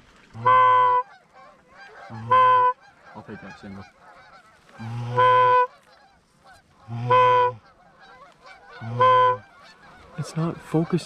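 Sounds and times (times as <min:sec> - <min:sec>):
mouth-blown waterfowl call: 0:00.3 - 0:10.8
faint wavering bird calls: 0:00.3 - 0:11.0.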